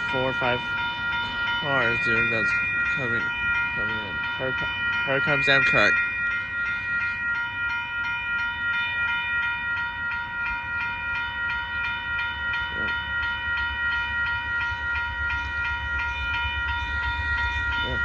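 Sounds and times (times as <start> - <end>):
crossing warning bell ringing: 0.0 - 18.0
train rumble: 0.0 - 18.0.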